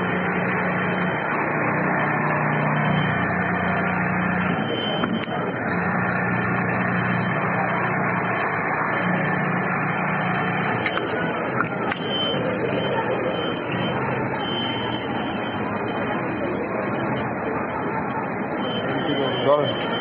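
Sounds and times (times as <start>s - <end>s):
sewing machine running: 0.0s - 18.4s.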